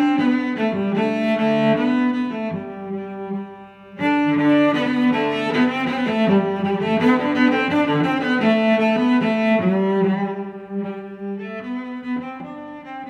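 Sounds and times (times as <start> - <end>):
slow bowed strings: 0.0 - 13.0.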